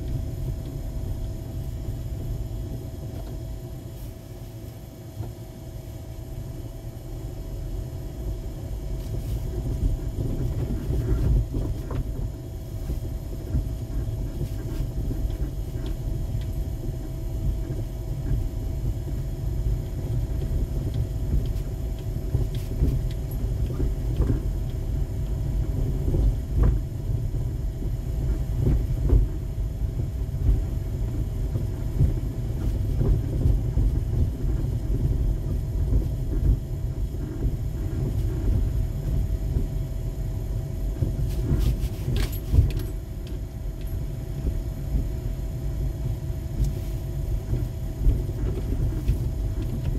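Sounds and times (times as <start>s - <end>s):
faint hum: 0.0s - 49.9s
tyre and engine rumble: 0.0s - 49.9s.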